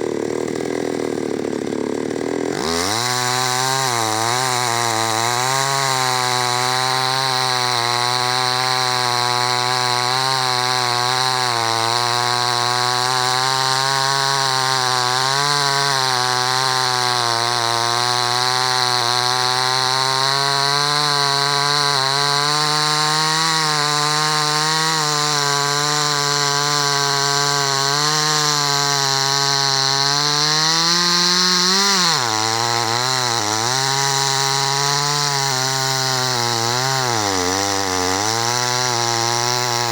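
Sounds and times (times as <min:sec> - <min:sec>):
chainsaw cutting tree: 0:00.0 - 0:39.9.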